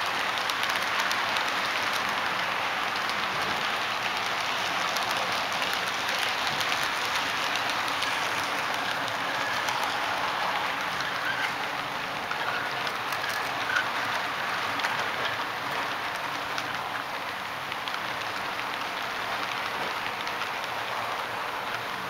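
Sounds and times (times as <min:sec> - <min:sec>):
model train wheels rattling: 0:00.0 - 0:22.0
faint irregular clicks: 0:00.1 - 0:21.9.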